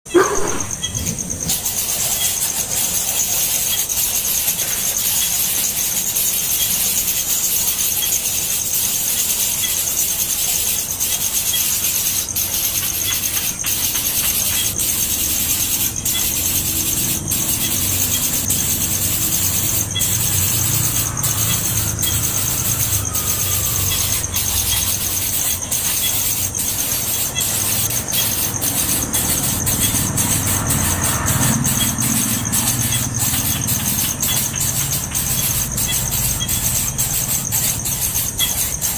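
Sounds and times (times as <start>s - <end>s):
baby birds cheeping: 0.0s - 38.9s.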